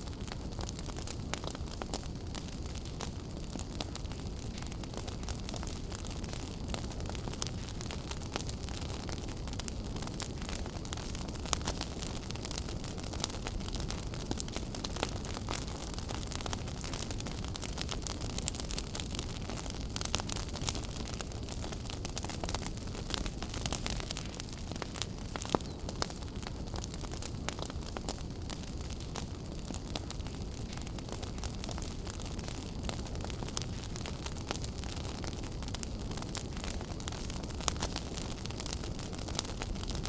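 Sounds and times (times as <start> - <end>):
fire crackling in fireplace: 0.0 - 40.0.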